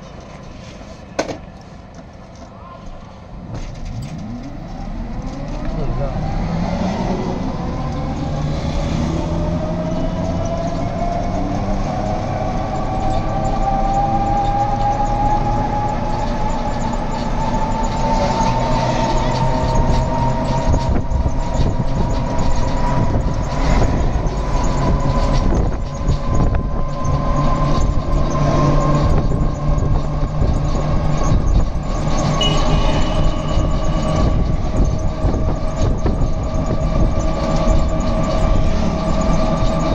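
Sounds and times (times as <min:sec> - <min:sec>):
bus engine whine: 0:00.0 - 0:39.9
road noise and rattles: 0:00.0 - 0:39.9.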